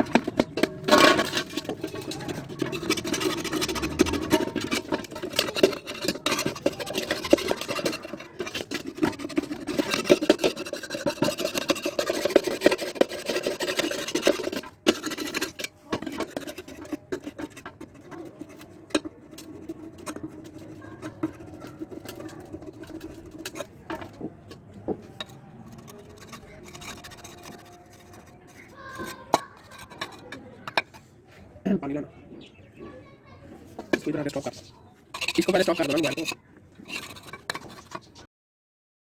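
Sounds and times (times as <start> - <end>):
hand scraping engine cover: 0.0 - 32.5, 33.3 - 38.3.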